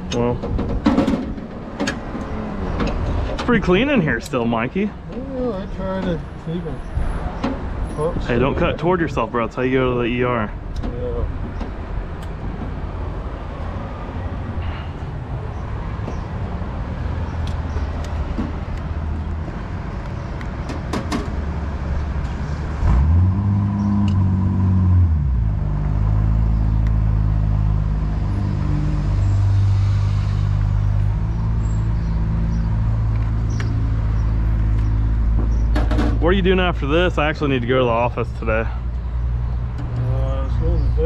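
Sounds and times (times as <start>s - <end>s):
vehicle engine droning: 0.0s - 41.0s.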